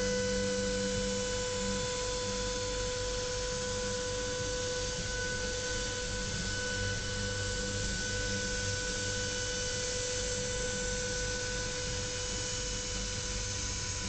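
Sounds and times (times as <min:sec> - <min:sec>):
machine spindle whine: 0:00.0 - 0:14.0.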